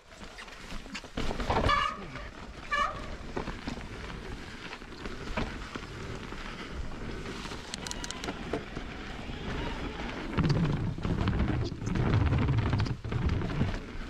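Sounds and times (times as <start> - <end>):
bike tyre rumble and rattle: 0.0 - 14.0.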